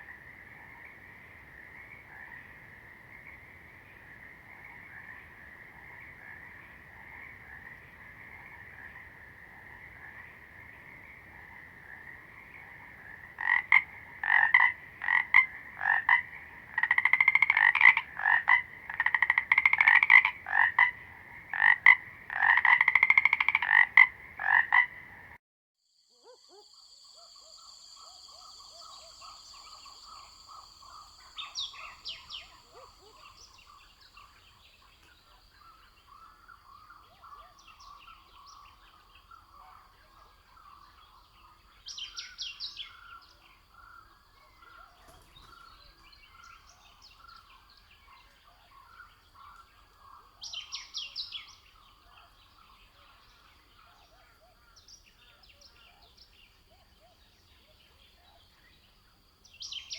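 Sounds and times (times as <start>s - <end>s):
distant frogs calling: 0.0s - 25.4s, 26.1s - 59.9s
frogs croaking close by: 0.0s - 59.9s.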